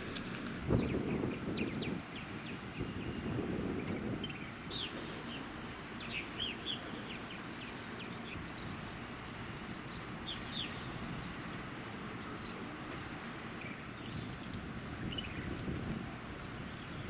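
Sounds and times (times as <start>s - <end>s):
small birds chirping: 0.0s - 15.7s.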